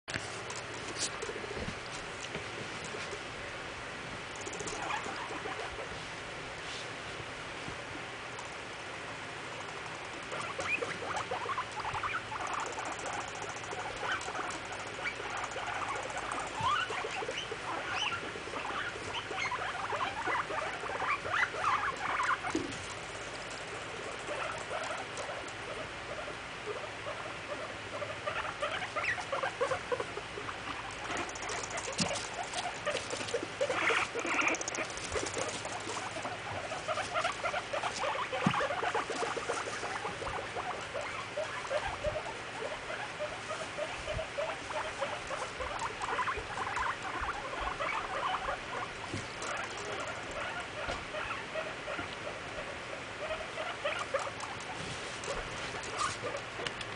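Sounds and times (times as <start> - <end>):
guinea pigs squeaking: 0.2 - 3.2, 4.3 - 6.1, 8.3 - 8.8, 9.5 - 56.9.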